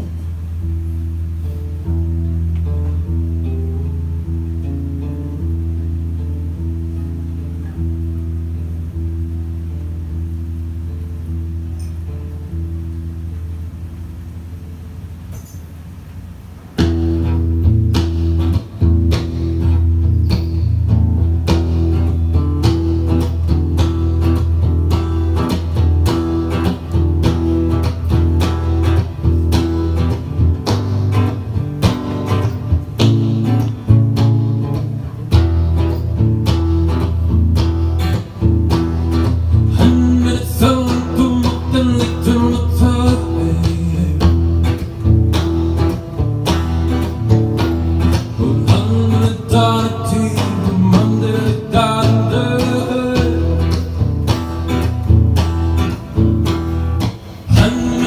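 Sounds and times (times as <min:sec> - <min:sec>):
bass line: 0:00.0 - 0:15.3, 0:16.8 - 0:58.0
strummed guitar: 0:00.0 - 0:58.0.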